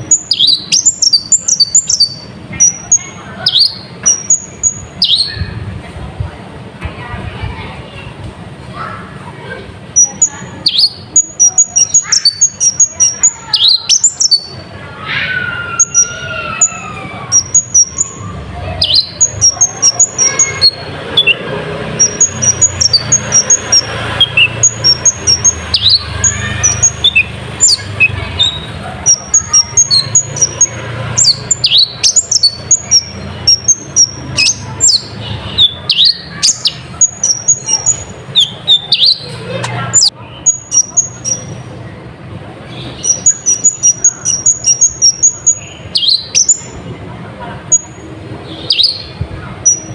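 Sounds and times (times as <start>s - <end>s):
bird chirping song: 0.0s - 5.8s, 9.9s - 41.7s, 42.6s - 46.9s, 47.7s - 49.9s.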